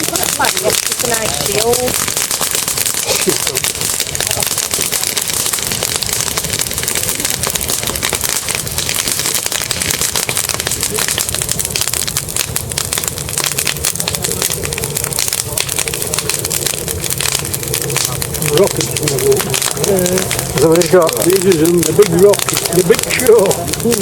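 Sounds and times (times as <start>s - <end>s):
bonfire crackling: 0.0s - 24.0s.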